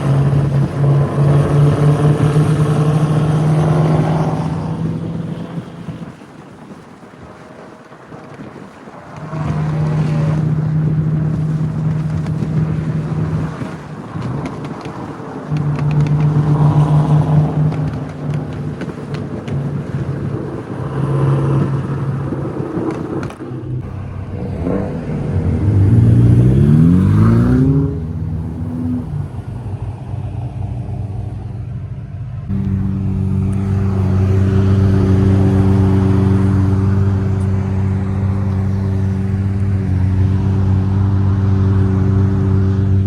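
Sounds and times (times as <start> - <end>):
car engine revving: 0.0 - 6.2, 9.1 - 43.0
sports car engines droning: 0.0 - 43.0.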